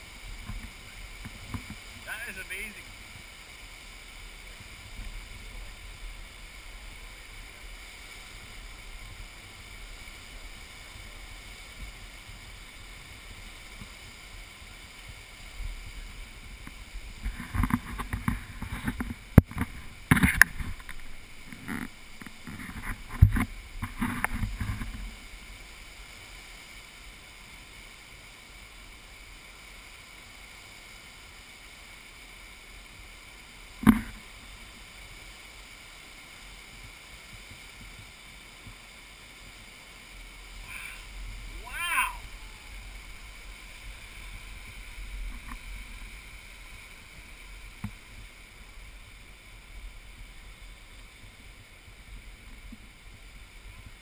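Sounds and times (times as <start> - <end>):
flood water rushing: 0.0 - 54.0.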